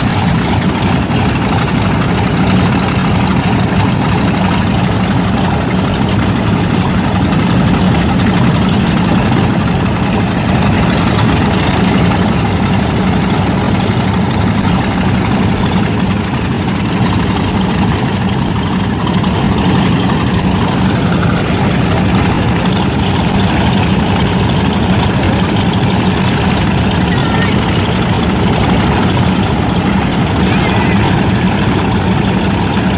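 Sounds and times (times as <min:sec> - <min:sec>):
radial engine idling: 0:00.0 - 0:32.9.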